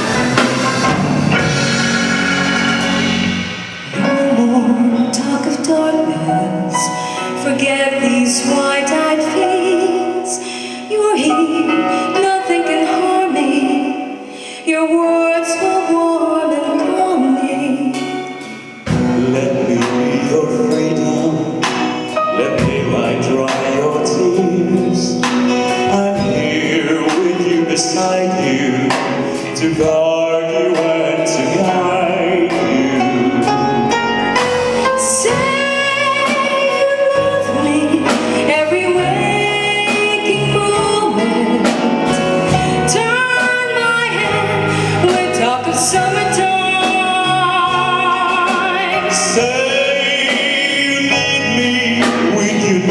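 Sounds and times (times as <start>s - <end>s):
live band playing pop: 0.0s - 52.9s
male and female singers: 1.4s - 52.9s.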